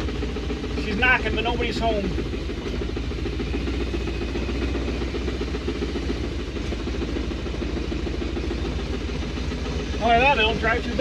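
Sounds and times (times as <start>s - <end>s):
rapid steady engine knocking: 0.0s - 11.0s
truck engine running: 0.0s - 11.0s.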